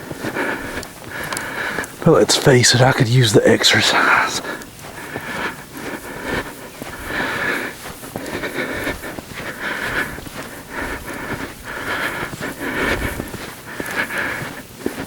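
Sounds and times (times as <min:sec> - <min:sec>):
footsteps crunching in snow: 0:00.0 - 0:15.0
man breathing heavily: 0:00.0 - 0:15.0.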